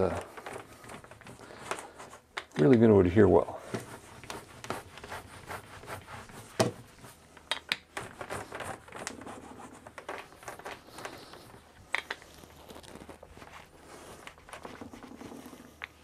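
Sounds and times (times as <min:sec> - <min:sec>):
hand roller rubbing on fabric: 0:00.0 - 0:02.3, 0:03.1 - 0:16.0.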